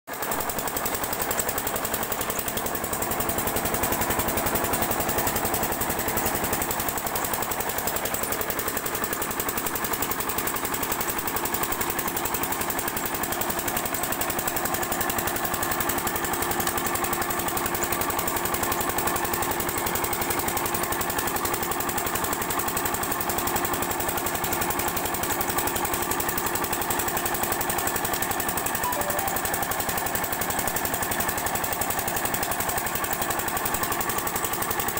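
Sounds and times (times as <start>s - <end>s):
diesel engine knocking: 0.2s - 34.9s.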